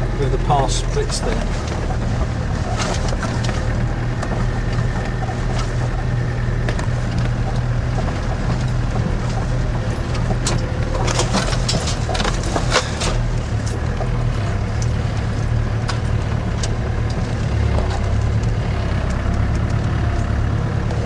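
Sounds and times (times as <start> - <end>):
vehicle engine droning in cab: 0.0 - 21.0
sharp clicks and knocks: 0.4 - 21.0.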